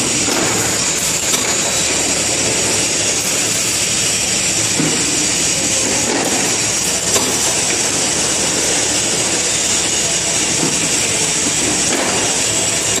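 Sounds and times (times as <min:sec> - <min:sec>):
machine running with high hiss: 0:00.0 - 0:13.0.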